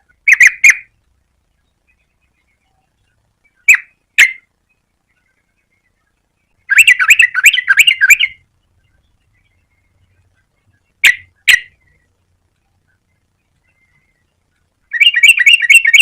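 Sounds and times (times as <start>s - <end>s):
bulbul singing: 0.0s - 16.0s.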